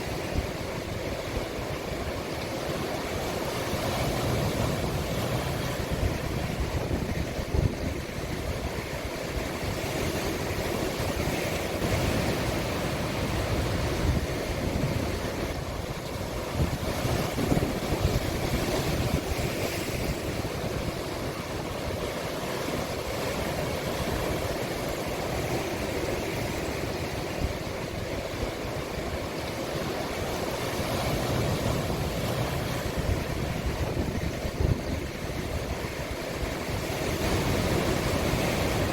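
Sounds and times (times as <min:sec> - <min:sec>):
sea waves breaking on shore: 0:00.0 - 0:38.9
wind rumble on microphone: 0:00.0 - 0:38.9.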